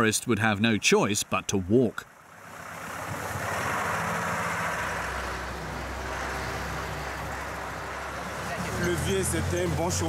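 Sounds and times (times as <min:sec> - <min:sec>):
road noise: 0:00.0 - 0:10.0
truck engine droning: 0:00.0 - 0:10.0.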